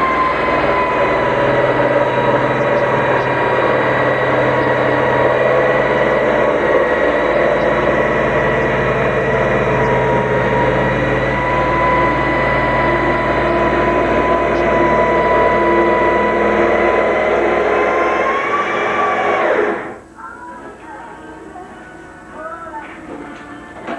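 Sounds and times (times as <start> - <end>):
machine humming and whining: 0.0 - 23.9.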